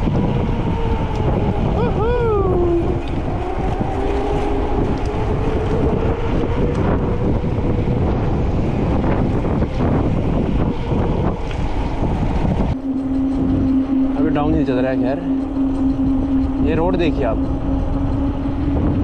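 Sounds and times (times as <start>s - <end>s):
thin steady whine: 0.0s - 19.0s
wind buffeting microphone: 0.0s - 19.0s.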